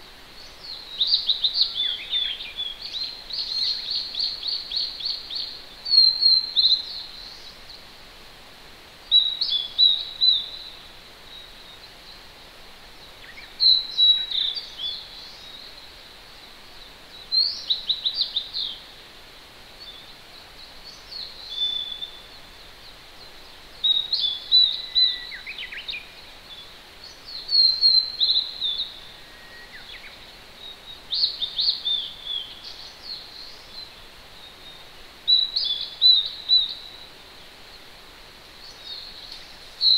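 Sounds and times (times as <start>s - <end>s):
distant mountain stream: 0.0s - 39.9s
songbird singing: 0.0s - 39.9s.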